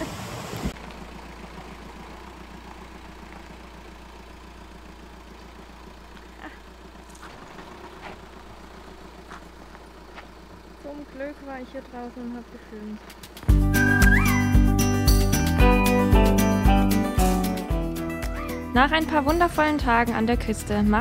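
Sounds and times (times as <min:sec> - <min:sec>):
van engine idling: 0:00.0 - 0:21.0.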